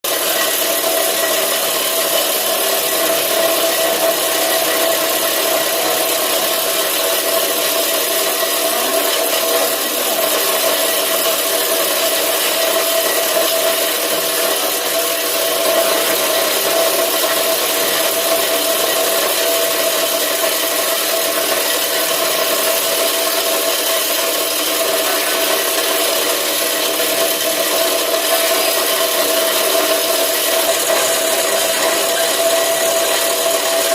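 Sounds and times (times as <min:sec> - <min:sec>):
grinder machine whining: 0:00.0 - 0:33.9.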